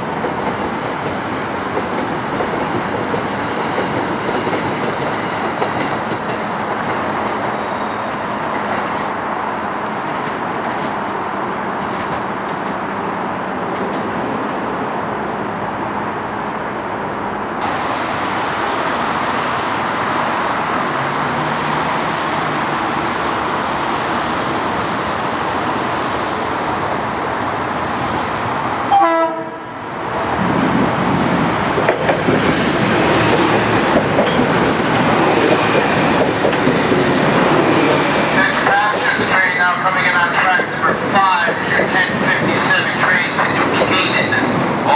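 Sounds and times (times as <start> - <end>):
train rail rumble: 0.0 - 44.9.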